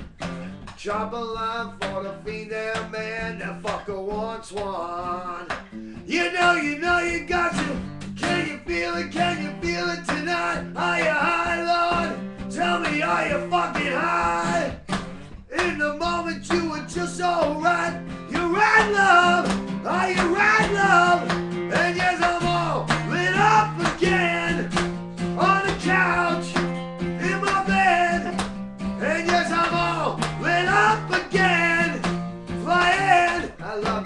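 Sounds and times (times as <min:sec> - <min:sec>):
guitar playing: 0:00.0 - 0:34.0
person singing: 0:00.8 - 0:14.9, 0:15.5 - 0:28.4, 0:29.0 - 0:34.0.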